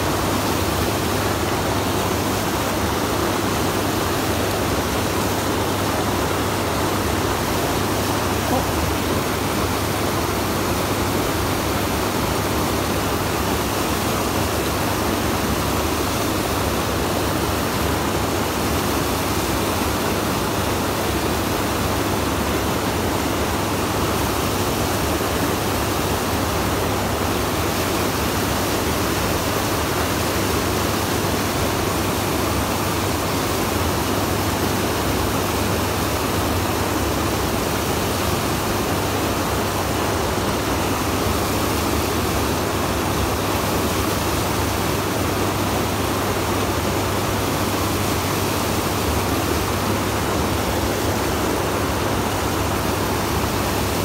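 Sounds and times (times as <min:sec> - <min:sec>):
churning wake water: 0:00.0 - 0:54.0.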